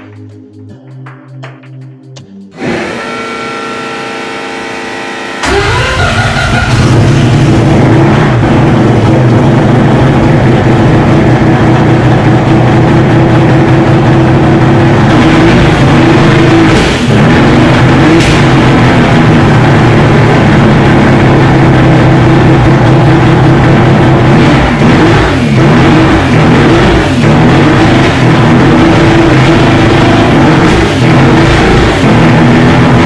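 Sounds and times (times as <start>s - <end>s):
rotary engine running: 2.6s - 33.0s.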